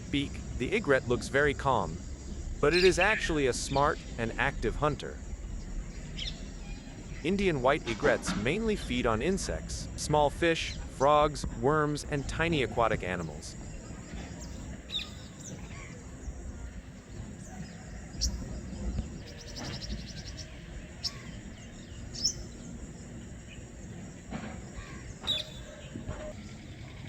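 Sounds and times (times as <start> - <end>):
birds chirping: 0.0 - 27.0
low background rumble: 0.0 - 27.0.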